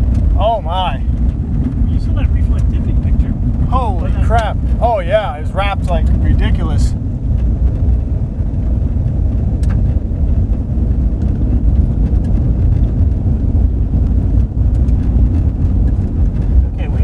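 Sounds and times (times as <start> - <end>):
car rumbling on gravel road: 0.0 - 17.0.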